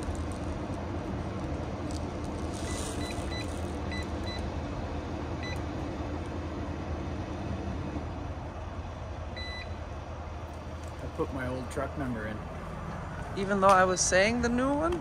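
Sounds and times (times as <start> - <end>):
truck engines idling: 0.0 - 15.0.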